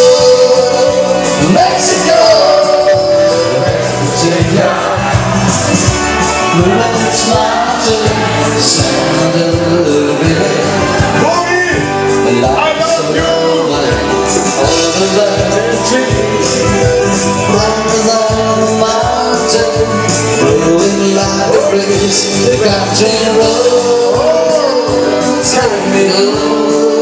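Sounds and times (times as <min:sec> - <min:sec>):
band music: 0:00.0 - 0:27.0
steady drum beat: 0:00.0 - 0:27.0.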